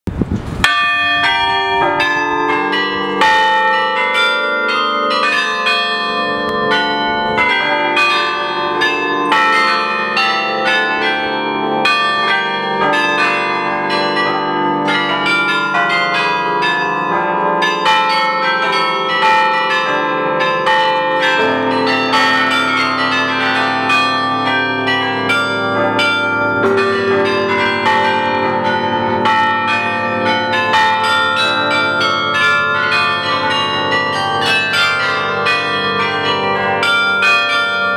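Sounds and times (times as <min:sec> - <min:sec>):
carillon bells playing a tune: 0:00.6 - 0:37.9
deep low bell ringing: 0:00.6 - 0:37.9.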